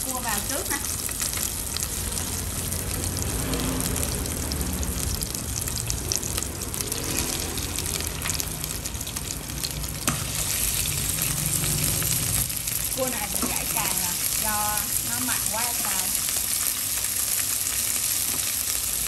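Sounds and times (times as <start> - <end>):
shallots sizzling in hot oil: 0.0 - 19.0.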